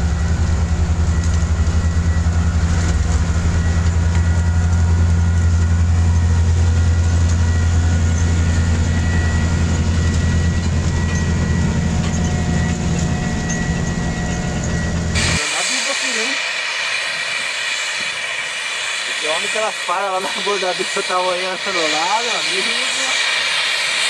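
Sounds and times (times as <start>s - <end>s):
harvester diesel engine drone: 0.0s - 24.0s
high mechanical whine: 0.0s - 24.0s.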